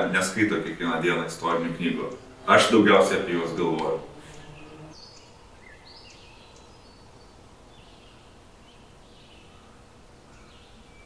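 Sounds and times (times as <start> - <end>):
low steady background noise: 0.0 - 11.0
faint bird chirps: 1.4 - 11.0.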